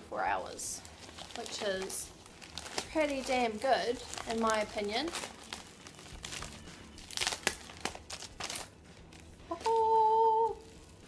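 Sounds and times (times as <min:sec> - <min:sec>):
parcel packaging crinkling and tearing: 0:00.5 - 0:11.0.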